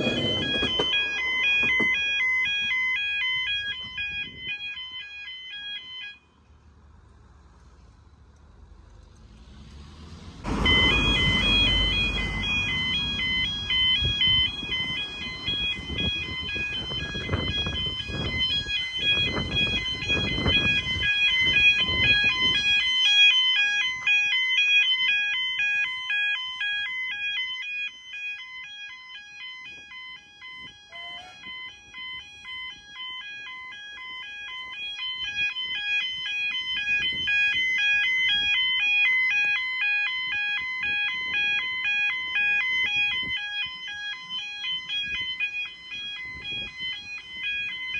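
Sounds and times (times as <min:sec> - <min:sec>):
two-tone level crossing alarm: 0:00.0 - 0:06.4, 0:10.4 - 0:47.9.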